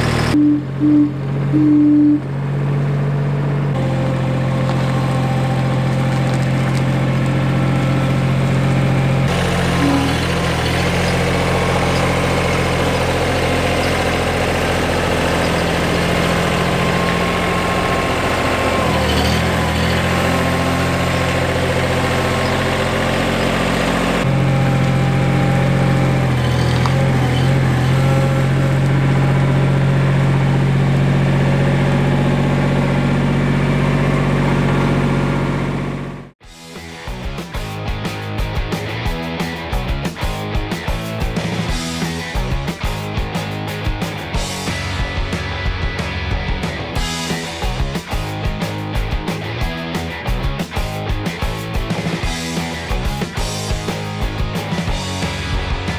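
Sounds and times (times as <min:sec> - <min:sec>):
diesel engine running steadily: 0:00.0 - 0:55.9.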